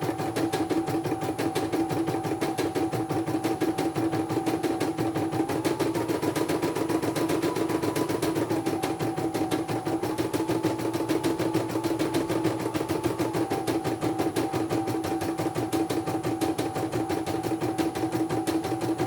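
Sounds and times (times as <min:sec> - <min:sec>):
embroidery machine stitching: 0:00.0 - 0:19.0.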